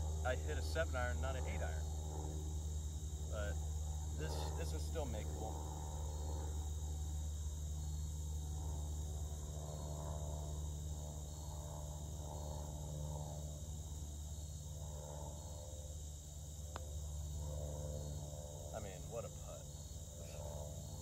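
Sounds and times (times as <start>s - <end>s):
insects chirring: 0.0s - 21.0s
low steady rumble: 0.0s - 21.0s.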